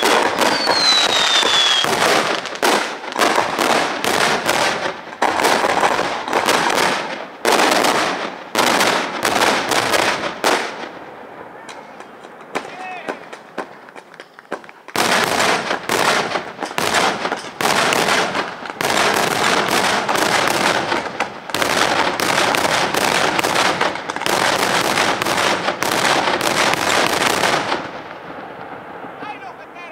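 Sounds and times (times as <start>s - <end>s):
fireworks banging and crackling: 0.0s - 29.9s.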